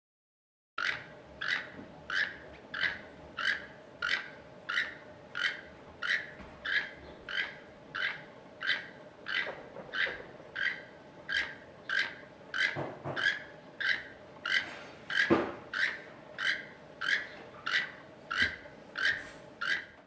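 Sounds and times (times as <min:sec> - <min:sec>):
toucan calling: 0:00.8 - 0:20.0.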